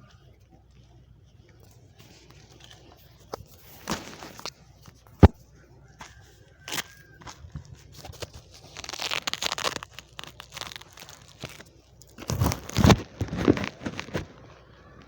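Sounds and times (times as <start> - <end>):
rustling and crunching: 0.0 - 15.0.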